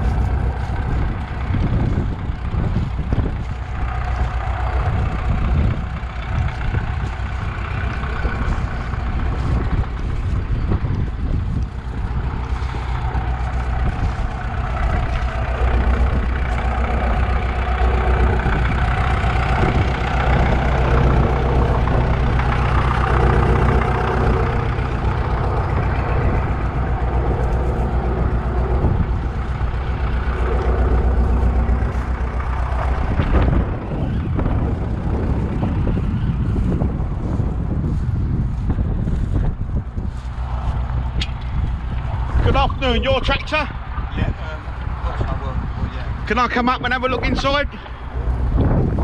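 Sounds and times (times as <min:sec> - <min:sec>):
tractor engine running: 0:00.0 - 0:49.0
wind on microphone: 0:00.0 - 0:49.0.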